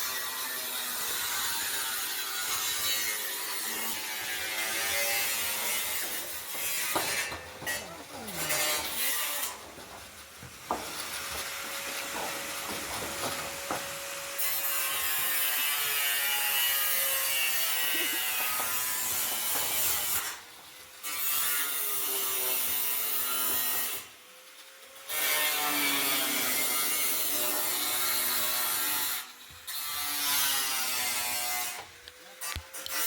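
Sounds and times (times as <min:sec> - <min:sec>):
power tool working wood: 0:00.0 - 0:24.1, 0:25.1 - 0:33.0.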